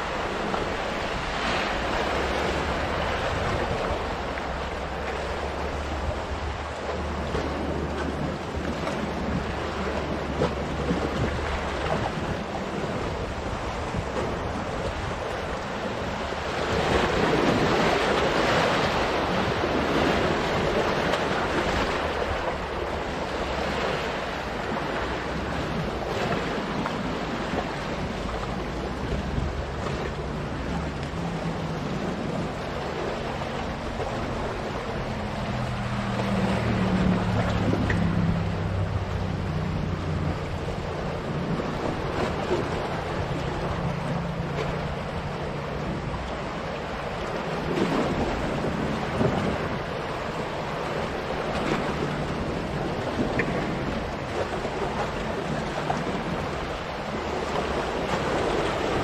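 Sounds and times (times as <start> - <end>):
waves splashing on rocks: 0.0 - 59.0
wind on microphone: 0.0 - 59.0.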